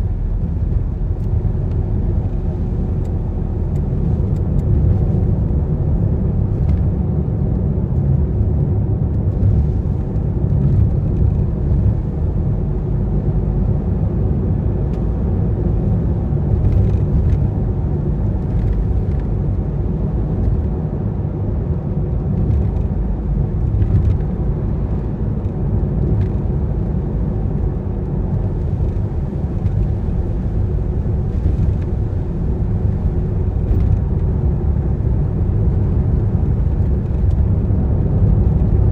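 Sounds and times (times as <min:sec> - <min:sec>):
car driving on wet road: 0:00.0 - 0:38.9.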